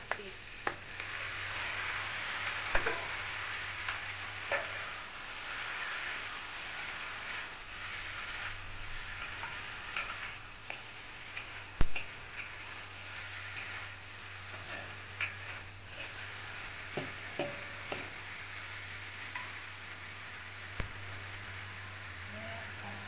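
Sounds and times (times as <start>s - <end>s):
meat sizzling in a hot pan: 0.0s - 23.0s
metal spatula scraping a pan: 1.1s - 19.7s.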